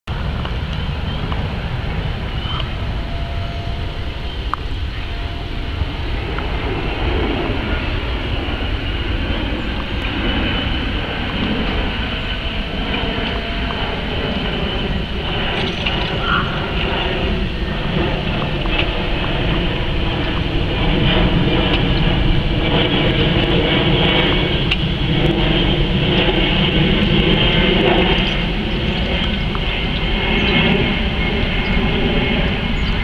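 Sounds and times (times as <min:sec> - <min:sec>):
jet airliner passing overhead: 0:00.1 - 0:33.0.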